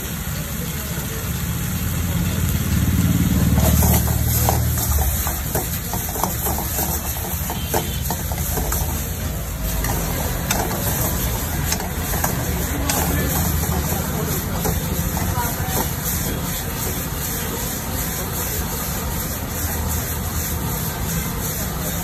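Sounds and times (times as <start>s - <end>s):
food sizzling in a wok: 0.0s - 22.0s
gas burner rumble: 0.0s - 22.0s
steel ladle scraping a wok: 3.3s - 22.0s.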